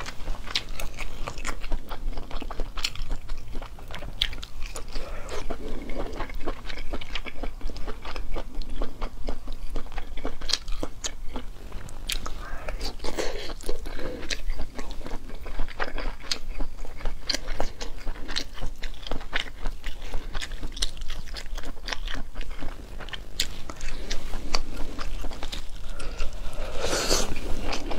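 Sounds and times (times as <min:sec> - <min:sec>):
biting and wet chewing: 0:00.0 - 0:27.9.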